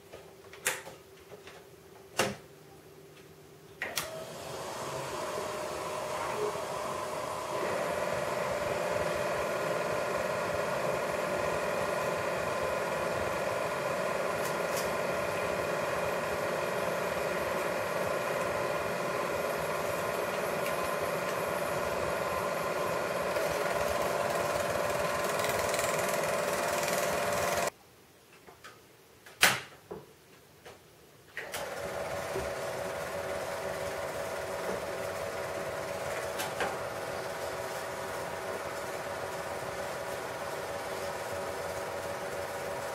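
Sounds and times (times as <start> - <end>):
film projector running: 3.9 - 27.7, 31.4 - 42.9.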